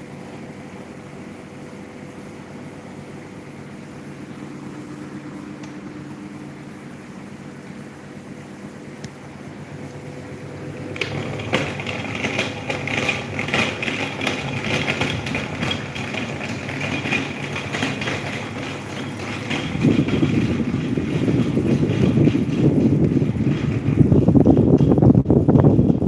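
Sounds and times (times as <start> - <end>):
electric fan motor hum: 0.0 - 26.0.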